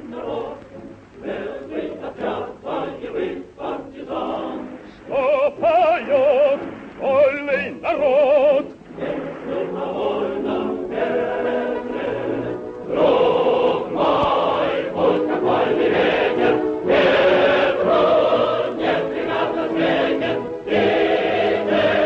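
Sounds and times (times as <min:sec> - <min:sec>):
operetta chorus singing with music: 0:00.0 - 0:22.0
solo voice holding long notes: 0:00.0 - 0:22.0.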